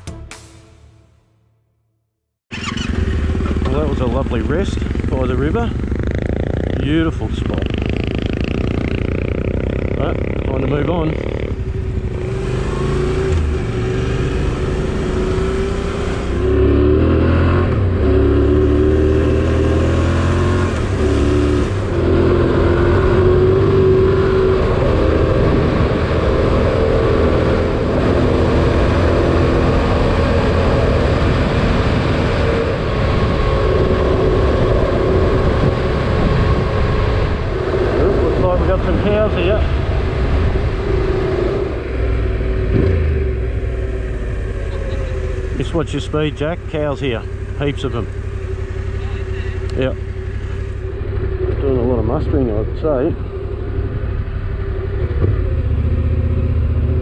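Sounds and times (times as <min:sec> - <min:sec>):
motorcycle engine accelerating: 0:02.5 - 0:57.0
wind and road noise: 0:02.5 - 0:57.0.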